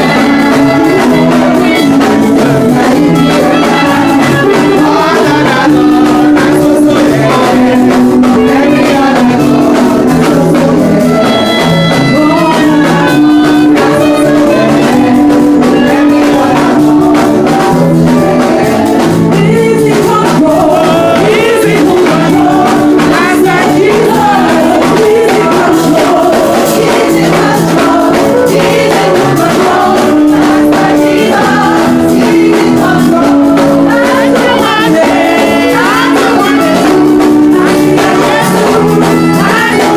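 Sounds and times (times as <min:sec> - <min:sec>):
gospel singing: 0:00.0 - 0:39.9
instrumental accompaniment: 0:00.0 - 0:39.9
tambourine-like percussion beat: 0:00.0 - 0:39.9.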